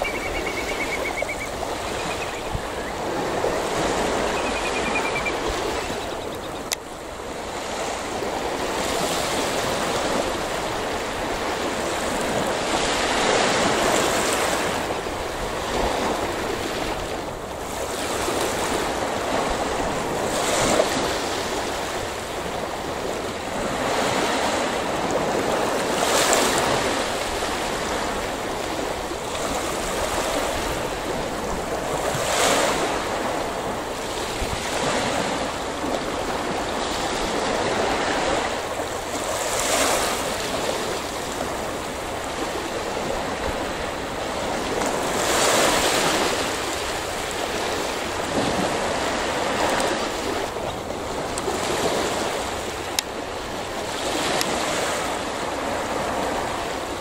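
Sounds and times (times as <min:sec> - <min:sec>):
sea waves washing against breakwater: 0:00.0 - 0:57.0.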